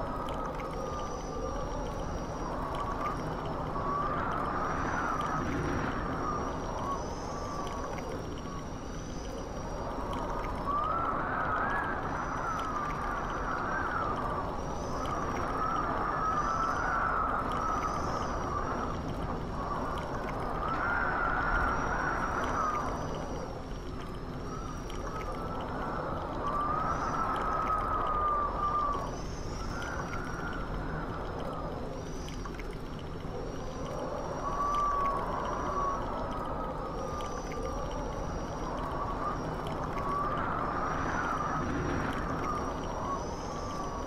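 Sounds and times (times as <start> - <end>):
rushing wind with wavering whistle: 0.0 - 44.0.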